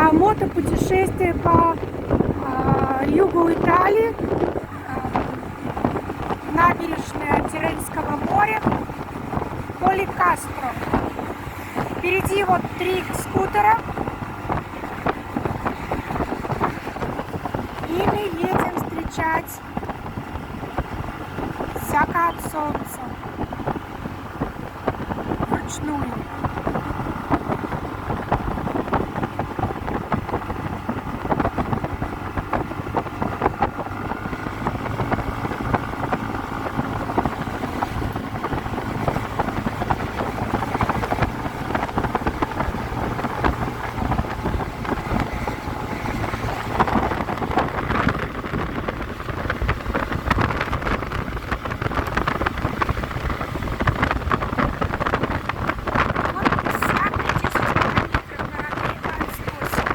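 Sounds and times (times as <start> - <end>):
motor scooter running: 0.0 - 59.9
wind buffeting the microphone: 0.0 - 59.9.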